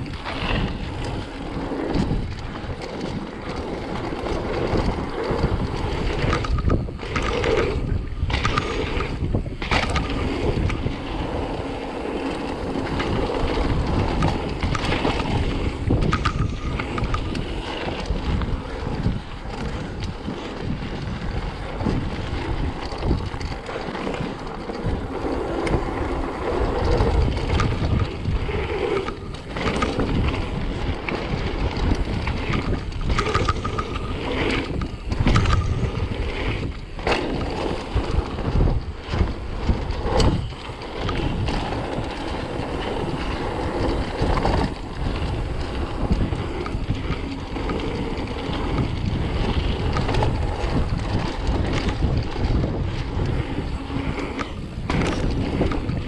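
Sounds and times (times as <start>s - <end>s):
bike rumbling and rattling: 0.0s - 56.0s
wind buffeting microphone: 0.0s - 56.0s.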